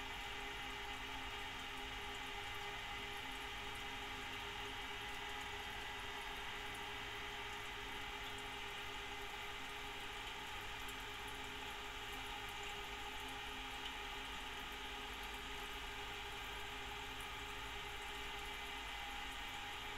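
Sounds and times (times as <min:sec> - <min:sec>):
cooling fan humming: 0:00.0 - 0:19.9.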